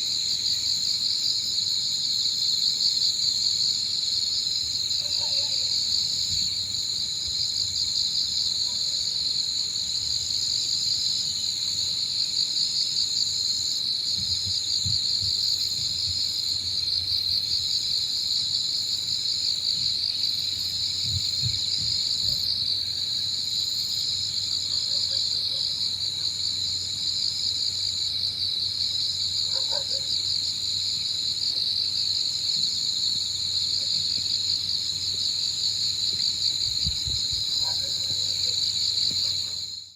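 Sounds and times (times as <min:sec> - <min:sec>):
crickets trilling: 0:00.0 - 0:39.9
higher insect song: 0:00.0 - 0:39.9.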